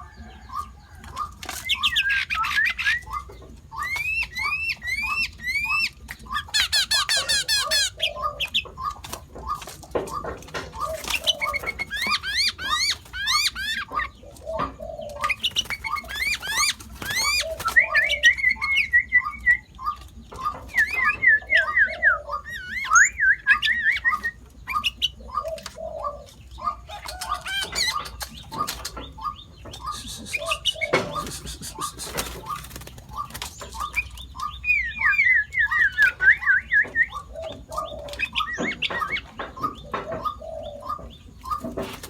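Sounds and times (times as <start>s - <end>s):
bird singing whistles and trills: 1.6s - 8.6s, 10.8s - 41.6s.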